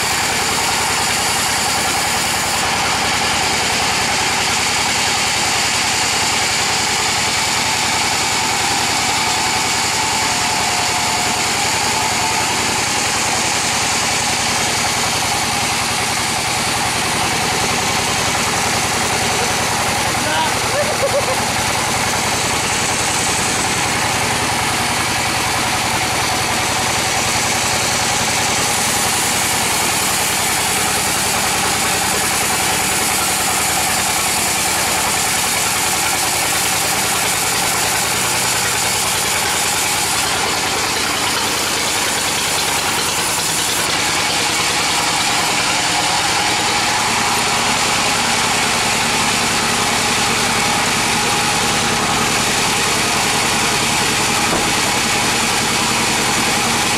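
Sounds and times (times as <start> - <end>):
band saw humming and whining: 0.0 - 56.9.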